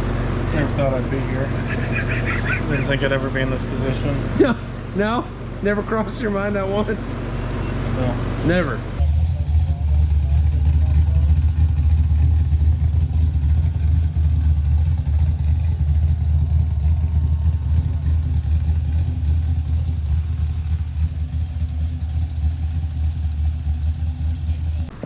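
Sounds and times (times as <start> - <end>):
motor vehicle engine rumble: 0.0 - 5.9, 9.0 - 25.0.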